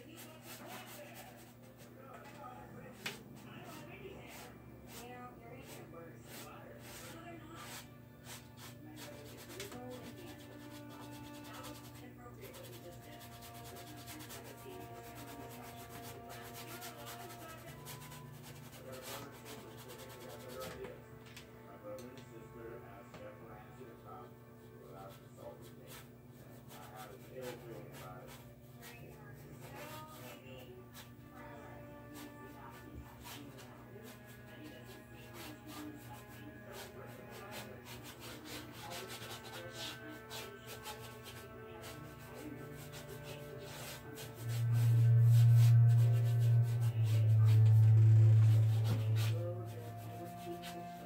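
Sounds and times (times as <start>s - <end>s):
paintbrush scrubbing on canvas: 0.0s - 20.9s, 24.8s - 51.0s.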